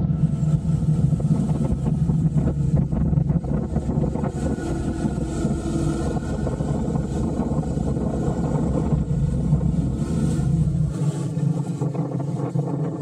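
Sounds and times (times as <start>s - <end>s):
motorcycle engine running: 0.0s - 12.3s
wind noise: 0.0s - 13.0s.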